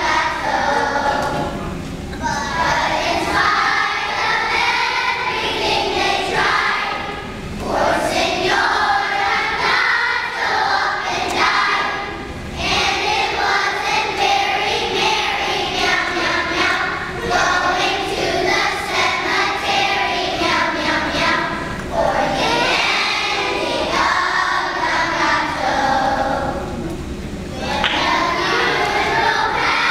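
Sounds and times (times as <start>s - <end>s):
children's choir singing: 0.0s - 26.9s, 27.5s - 29.9s.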